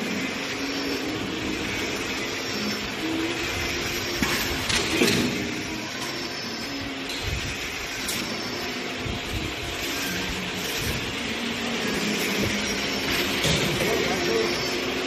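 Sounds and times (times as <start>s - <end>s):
welding machine running: 0.0s - 15.0s.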